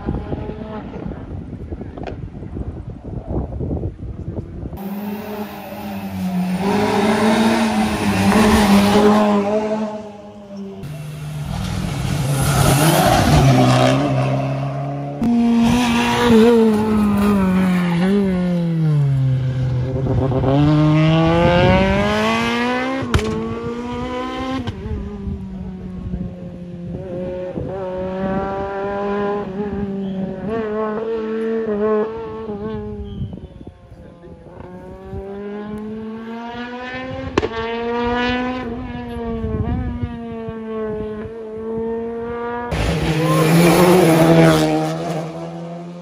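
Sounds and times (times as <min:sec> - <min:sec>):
rally car engines revving: 0:04.7 - 0:46.0.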